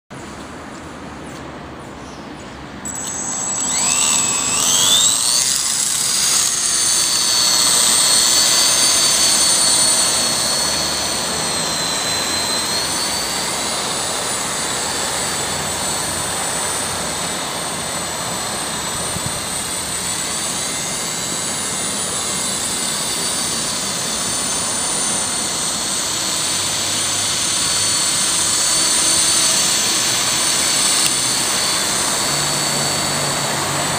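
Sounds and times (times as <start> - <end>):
rc helicopter rotor whine: 2.8 - 33.9.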